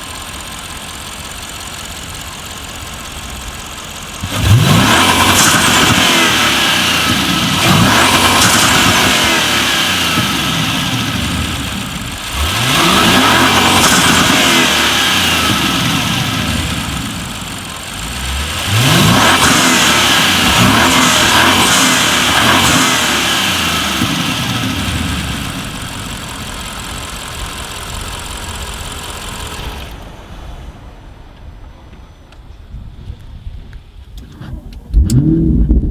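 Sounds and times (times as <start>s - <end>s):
car engine accelerating hard: 0.0s - 35.9s.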